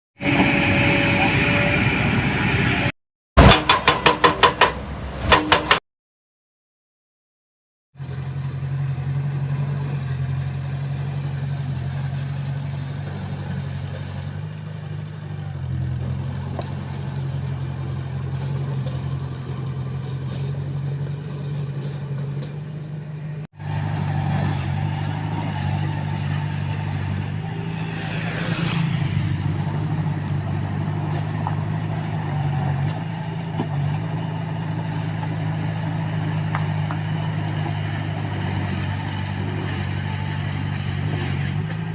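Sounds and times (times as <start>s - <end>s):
bulldozer diesel engine running: 8.0s - 41.9s.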